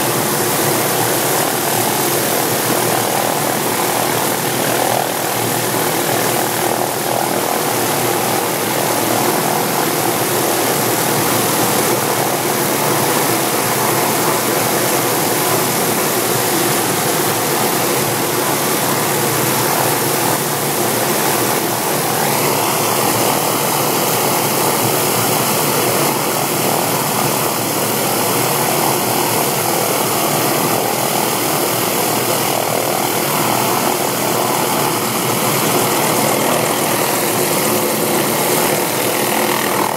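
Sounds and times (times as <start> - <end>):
helicopter turbine and rotor rush: 0.0 - 39.9.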